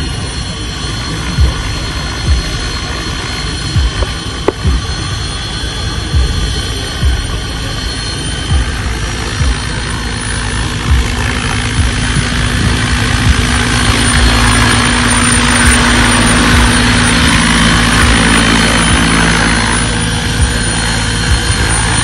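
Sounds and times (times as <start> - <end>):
rotor blades whooshing and chopping: 0.0 - 22.0
simulated turbine whine: 0.0 - 22.0.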